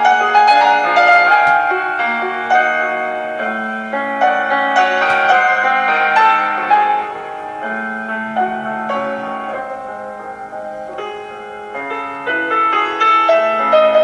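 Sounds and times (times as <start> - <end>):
classical piano music: 0.0 - 14.0.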